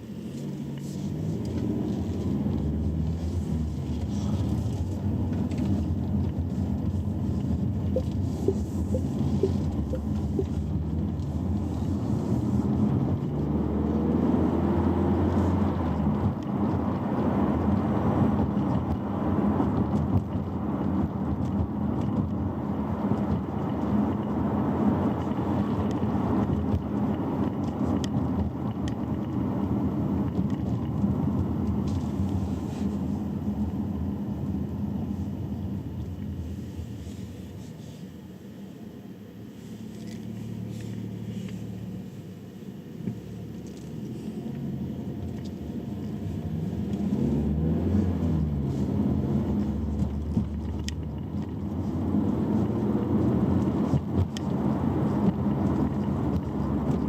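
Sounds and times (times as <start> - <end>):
car road noise: 0.0 - 57.0
low drivetrain hum: 0.0 - 57.0.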